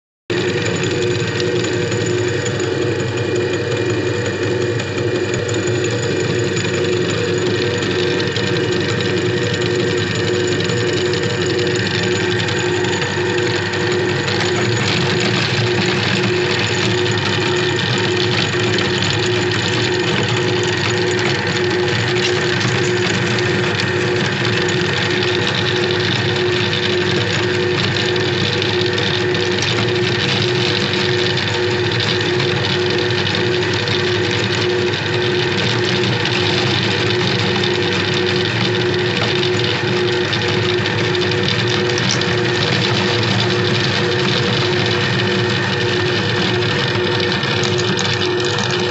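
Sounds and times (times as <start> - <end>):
meat grinder motor humming: 0.3 - 48.9.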